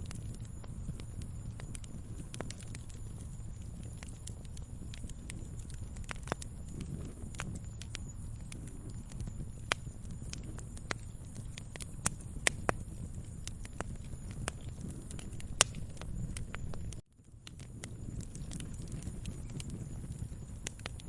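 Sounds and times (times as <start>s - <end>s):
low rumble of fire: 0.0s - 21.0s
wood fire crackling and popping: 0.0s - 21.0s.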